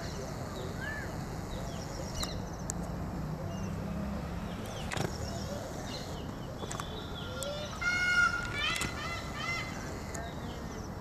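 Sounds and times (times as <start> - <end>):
low background noise: 0.0 - 11.0
small birds chirping: 0.0 - 11.0.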